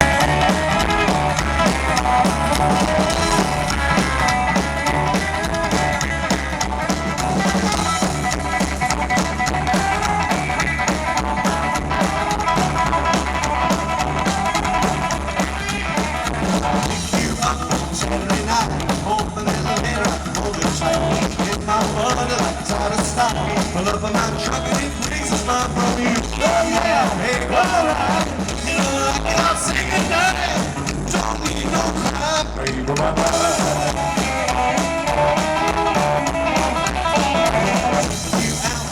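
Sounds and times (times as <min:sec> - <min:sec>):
rockabilly band playing: 0:00.0 - 0:38.9.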